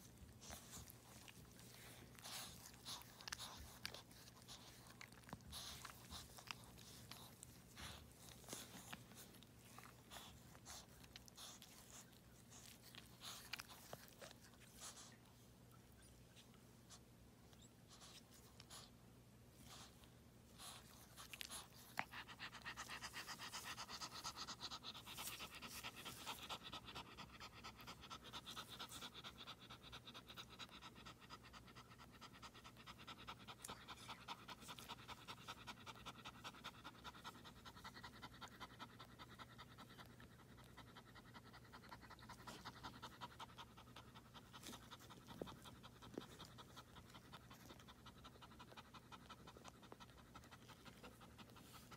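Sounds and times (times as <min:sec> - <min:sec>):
dog panting rapidly: 0:00.0 - 0:15.2, 0:19.6 - 0:51.9.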